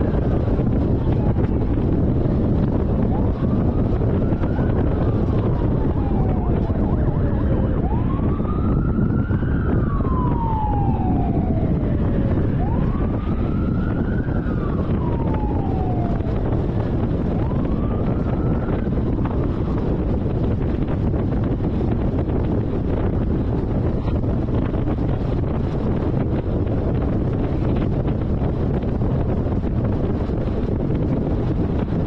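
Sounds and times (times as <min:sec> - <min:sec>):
police siren wailing: 0:00.0 - 0:32.0
wind and road noise: 0:00.0 - 0:32.0.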